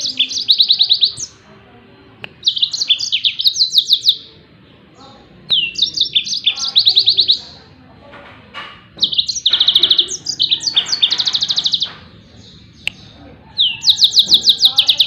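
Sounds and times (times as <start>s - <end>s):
canary singing rapid high notes: 0.0s - 1.5s, 2.2s - 4.4s, 5.0s - 7.8s, 9.0s - 15.0s.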